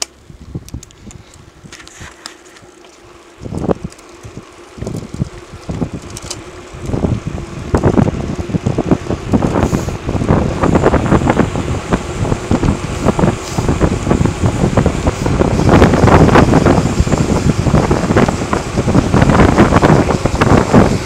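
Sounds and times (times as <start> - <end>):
wind buffeting microphone: 0.0 - 2.1, 3.1 - 21.0.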